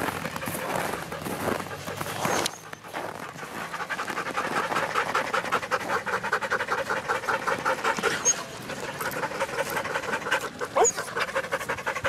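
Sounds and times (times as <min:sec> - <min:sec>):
sled dogs panting: 0:00.0 - 0:12.0.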